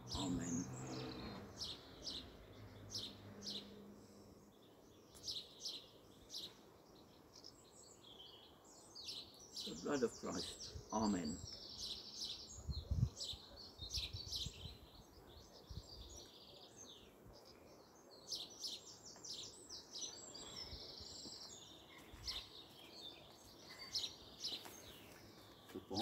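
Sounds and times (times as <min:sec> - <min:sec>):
birds chirping and singing: 0:00.0 - 0:26.0.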